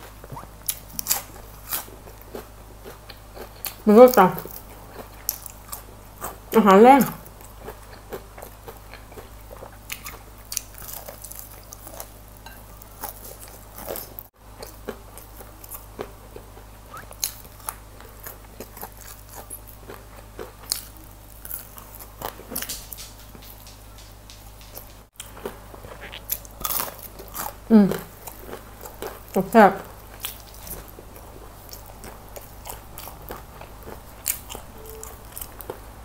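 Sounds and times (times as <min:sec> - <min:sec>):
chewing crispy chicken: 0:00.0 - 0:06.6, 0:07.2 - 0:36.0.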